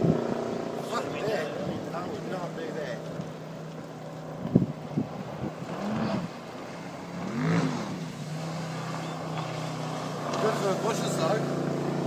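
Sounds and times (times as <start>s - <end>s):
motorboat engine revving: 0.0s - 12.0s.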